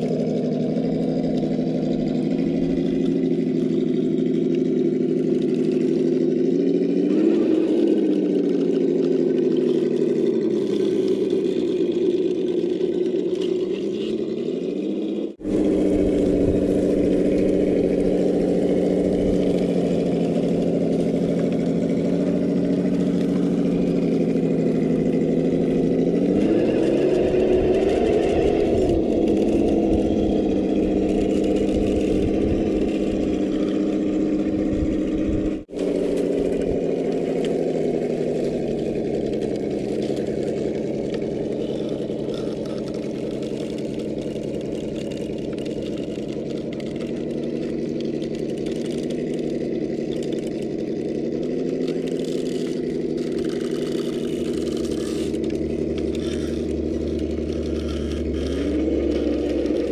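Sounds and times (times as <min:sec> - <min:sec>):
rc crawler motor droning: 0:00.0 - 0:59.9.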